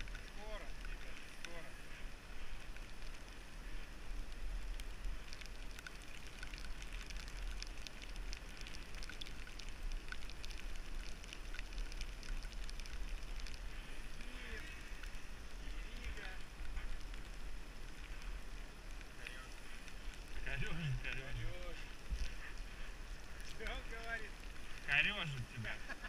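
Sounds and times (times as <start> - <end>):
rain tapping on camera housing: 0.0 - 26.0
wet road noise: 0.0 - 26.0.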